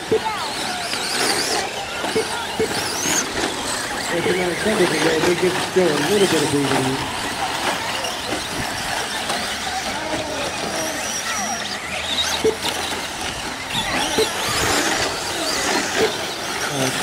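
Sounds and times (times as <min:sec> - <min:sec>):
rc truck motors whining: 0:00.0 - 0:17.0.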